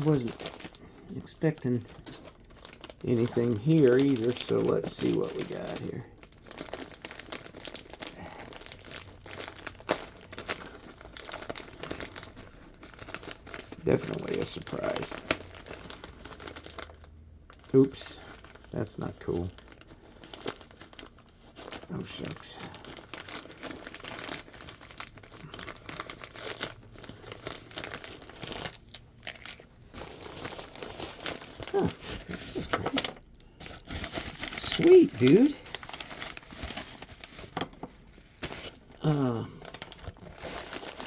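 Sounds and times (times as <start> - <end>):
packaging crinkling and tearing: 0.0 - 41.0.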